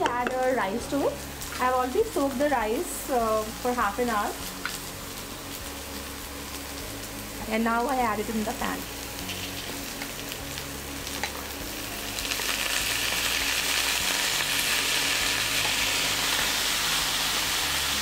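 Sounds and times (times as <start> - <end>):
rice sizzling in a pan: 0.0 - 18.0.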